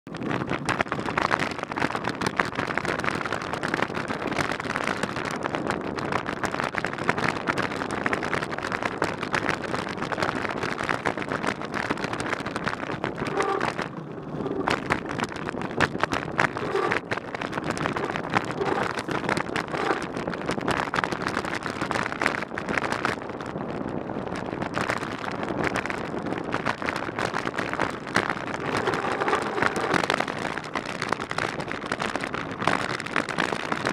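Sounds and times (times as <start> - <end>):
bike rattling over bumps: 0.1 - 33.9
wind buffeting microphone: 0.1 - 33.9.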